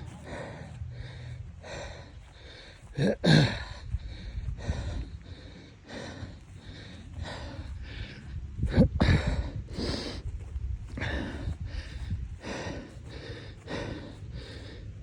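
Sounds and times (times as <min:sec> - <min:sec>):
person gasping: 0:00.0 - 0:10.2, 0:10.9 - 0:14.9
person breathing hard: 0:00.0 - 0:15.0.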